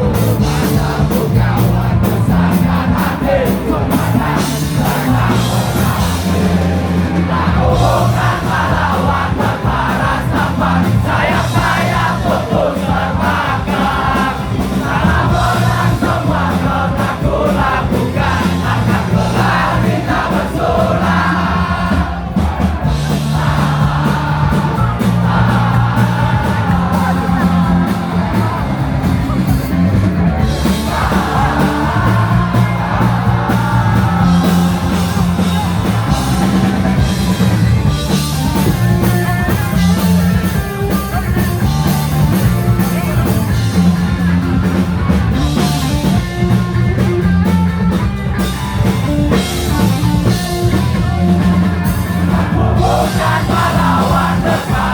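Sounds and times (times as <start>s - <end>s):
punk rock band playing: 0.0s - 54.9s.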